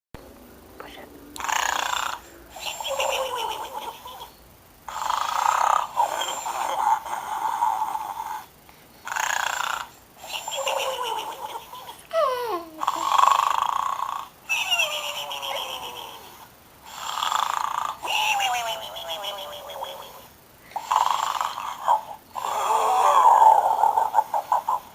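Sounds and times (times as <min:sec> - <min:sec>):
pig snoring: 0:01.0 - 0:12.0, 0:12.8 - 0:24.9.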